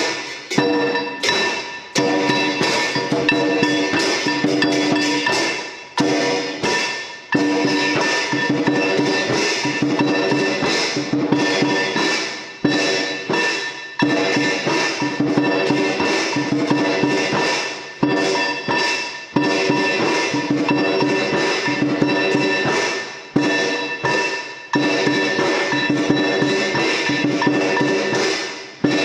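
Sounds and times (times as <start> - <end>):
percussion music: 0.0 - 29.0.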